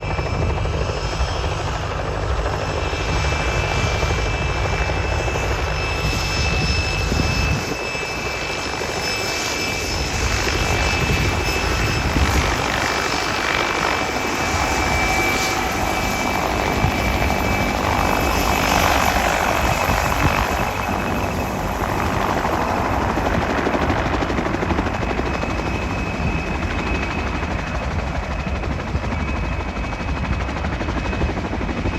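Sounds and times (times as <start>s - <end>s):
helicopter rotor rumble: 0.0s - 31.9s
helicopter turbine whine: 0.0s - 31.9s.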